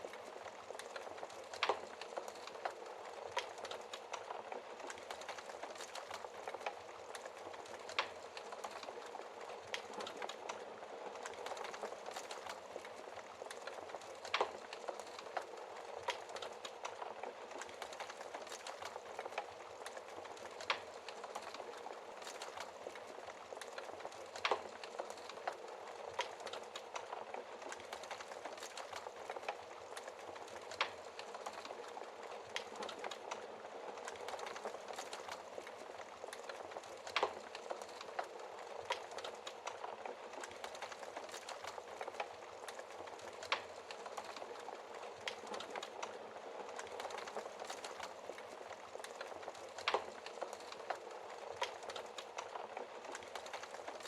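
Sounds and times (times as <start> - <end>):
wood fire crackling: 0.0 - 54.0
burning wood popping: 0.2 - 54.0.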